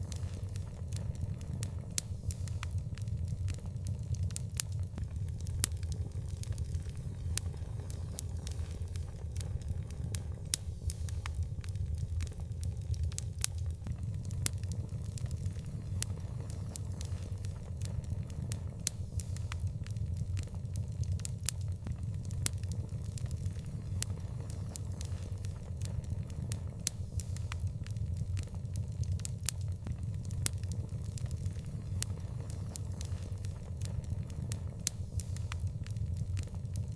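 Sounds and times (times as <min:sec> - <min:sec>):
fire crackling and popping: 0:00.0 - 0:36.9
low rumble: 0:00.0 - 0:36.9.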